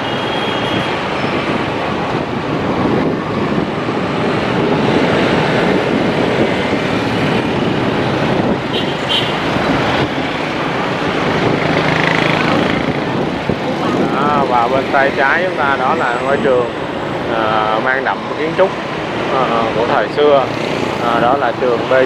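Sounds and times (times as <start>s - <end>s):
motorbike and car engines: 0.0s - 22.0s
wind rushing over microphone: 0.0s - 22.0s.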